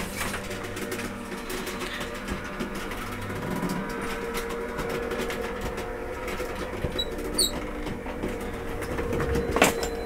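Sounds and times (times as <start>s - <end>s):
garage door motor humming: 0.0s - 10.0s.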